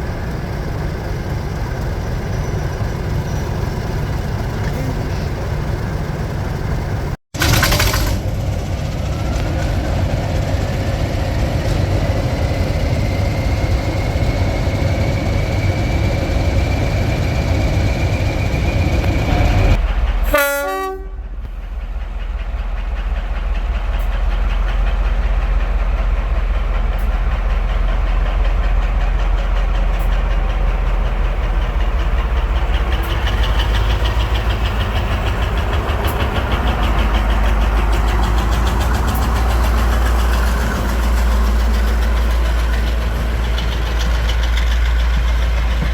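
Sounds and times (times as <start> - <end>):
diesel locomotive whine: 0.0 - 45.9
low engine rumble: 0.0 - 45.9.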